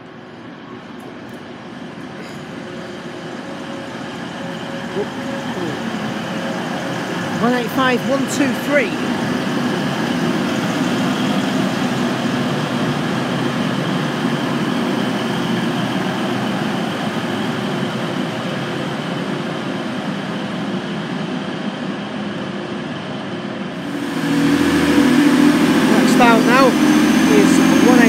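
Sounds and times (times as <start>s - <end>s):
diesel train engines and wheels: 0.0s - 28.0s.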